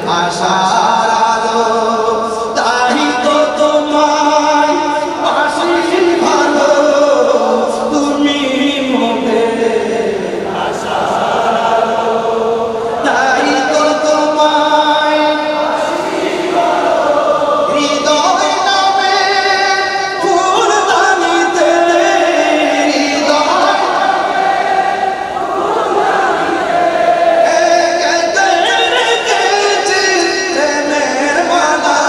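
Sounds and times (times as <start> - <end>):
man singing devotional song: 0.0 - 24.2, 27.4 - 32.0.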